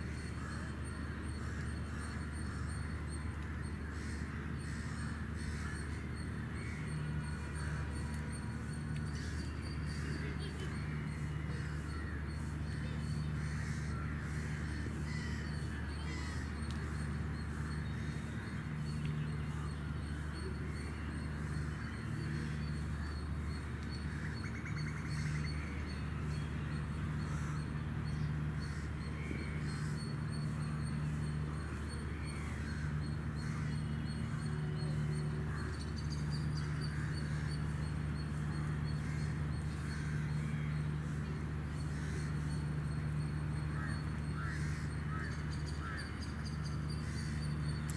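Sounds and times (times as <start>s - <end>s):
birds calling and chirping: 0.0s - 47.9s
steady low hum: 0.0s - 47.9s.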